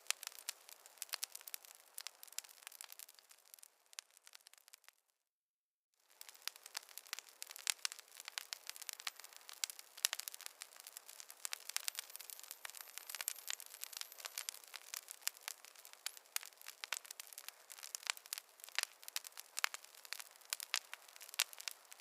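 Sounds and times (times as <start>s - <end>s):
wood fire crackling: 0.0s - 5.0s, 6.0s - 22.0s.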